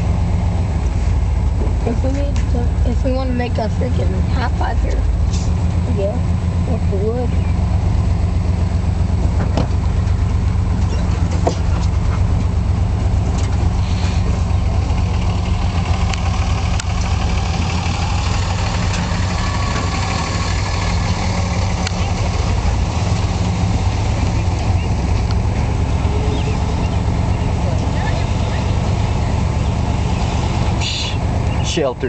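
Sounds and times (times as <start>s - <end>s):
car engine running: 0.0s - 32.0s
road noise inside car: 0.0s - 32.0s.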